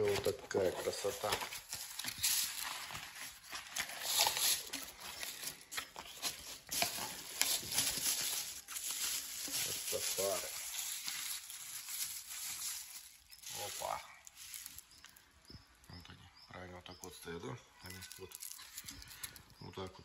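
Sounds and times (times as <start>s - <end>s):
bubble wrap crinkling: 0.0s - 15.9s, 17.8s - 19.6s.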